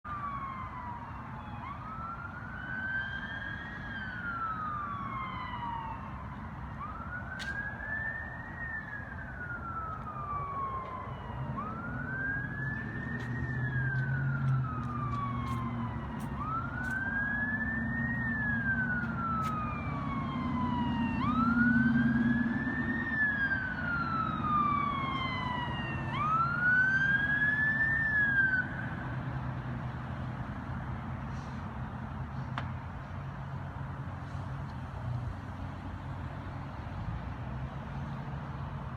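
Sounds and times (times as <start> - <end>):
emergency siren wailing: 0.0 - 32.2.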